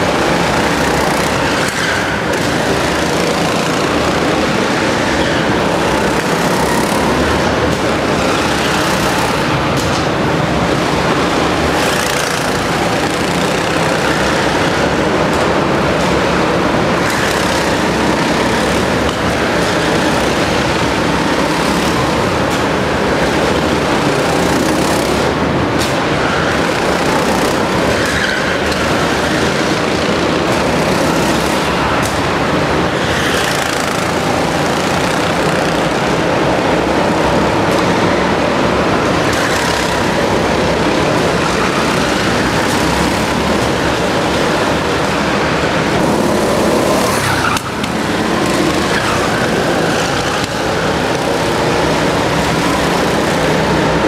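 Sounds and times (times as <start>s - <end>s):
go-kart engine running loudly: 0.0s - 54.0s.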